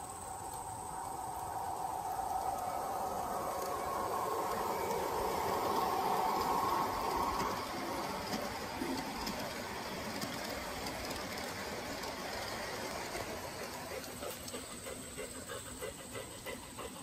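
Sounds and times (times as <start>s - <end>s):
model train motor humming: 2.4s - 17.0s.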